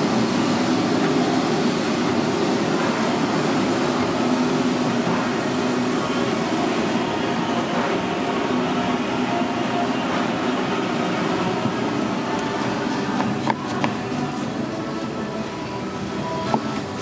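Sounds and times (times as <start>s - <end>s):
ventilation fans roaring: 0.0s - 17.0s.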